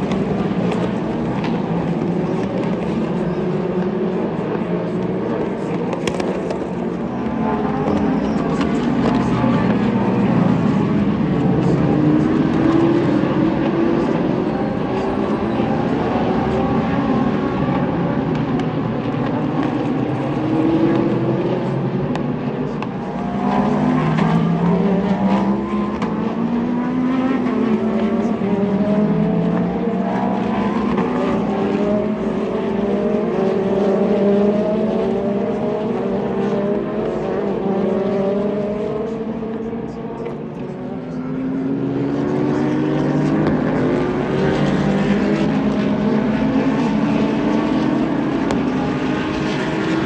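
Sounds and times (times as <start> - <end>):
race car engines shifting gears: 0.0 - 50.0
race car passing: 0.0 - 50.0.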